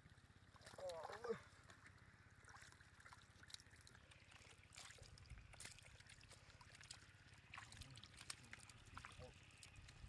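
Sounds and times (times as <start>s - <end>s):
fish splashing in puddle: 0.2s - 10.0s.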